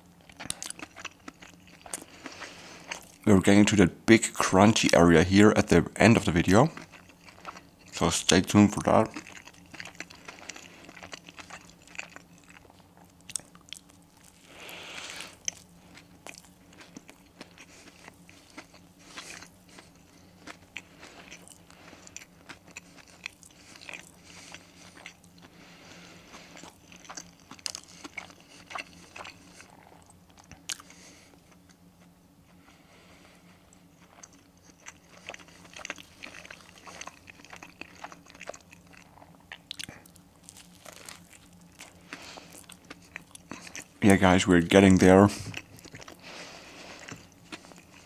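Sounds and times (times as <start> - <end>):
faint steady hum: 0.0 - 48.0
person chewing crispy food: 0.0 - 48.0.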